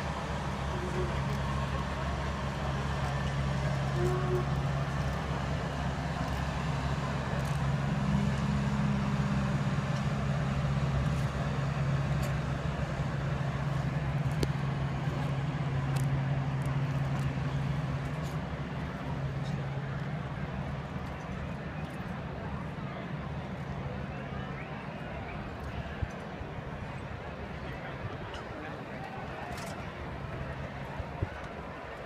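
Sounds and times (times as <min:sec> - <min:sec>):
engine hum: 0:00.0 - 0:32.0
outdoor noise: 0:00.0 - 0:32.0.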